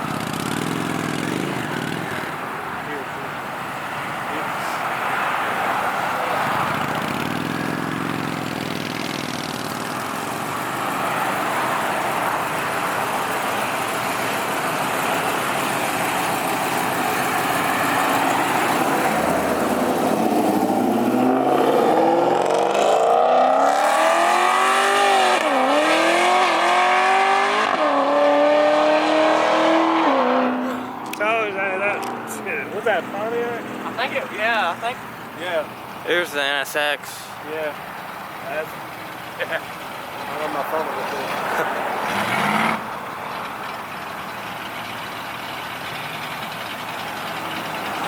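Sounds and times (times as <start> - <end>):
car engine accelerating: 0.0 - 35.9, 37.7 - 48.0.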